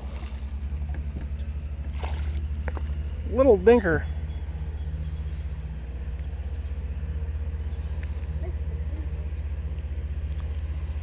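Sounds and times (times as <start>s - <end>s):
boat motor throbbing: 0.0s - 11.0s.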